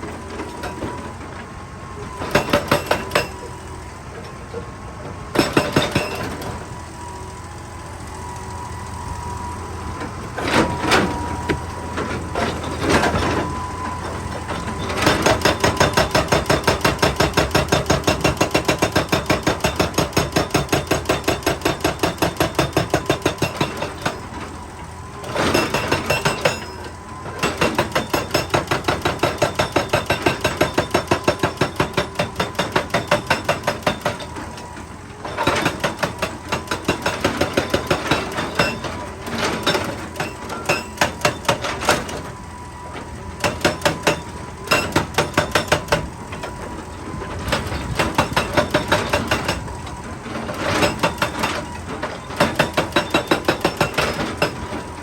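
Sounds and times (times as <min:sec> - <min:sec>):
hydraulic rock breaker hammering rock: 0:00.0 - 0:01.4, 0:02.1 - 0:07.2, 0:10.0 - 0:55.0.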